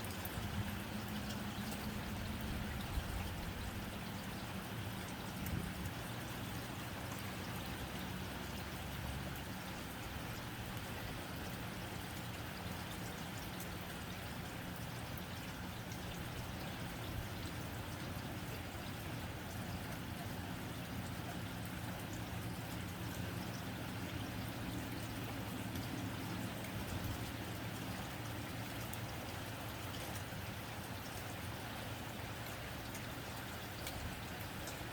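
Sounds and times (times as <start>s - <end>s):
rain drumming on a tin roof: 0.0s - 34.9s.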